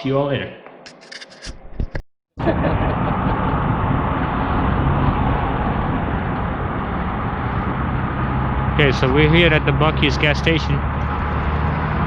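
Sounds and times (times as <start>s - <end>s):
wind and road noise: 1.0s - 12.0s.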